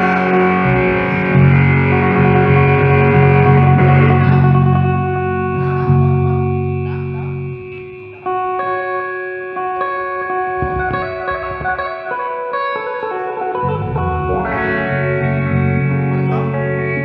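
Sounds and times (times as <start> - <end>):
low bass notes: 0.0 - 8.9, 9.7 - 12.3, 13.2 - 17.0
electric guitar melody with effects: 0.0 - 17.0.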